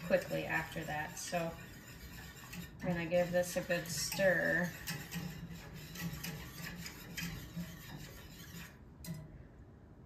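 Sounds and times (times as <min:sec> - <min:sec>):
whisk scraping a saucepan: 0:00.0 - 0:08.9.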